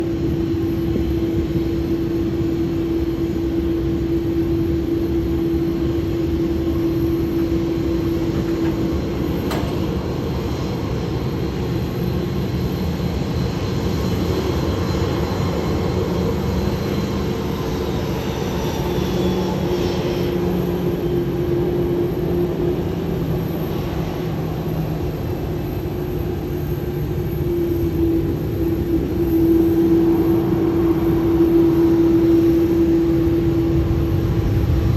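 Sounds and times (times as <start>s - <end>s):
jet engine whine: 0.0s - 34.9s
jet engines rumbling: 0.0s - 34.9s.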